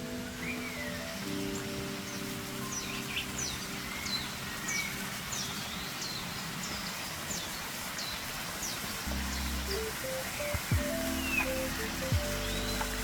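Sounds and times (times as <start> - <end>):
bird chirping: 0.0 - 13.0
creek water rushing: 0.0 - 13.0.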